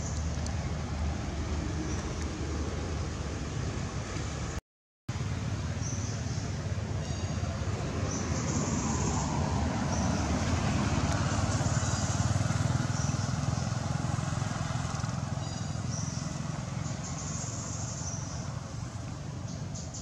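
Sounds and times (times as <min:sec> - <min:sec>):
passing vehicle engine rumble: 0:00.0 - 0:20.0.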